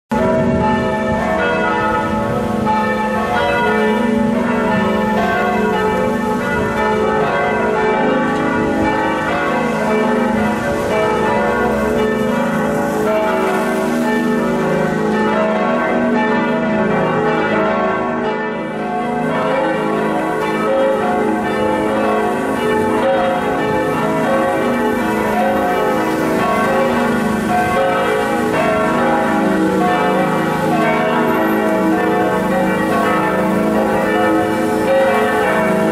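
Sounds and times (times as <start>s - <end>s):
church bells pealing: 0.1s - 35.9s.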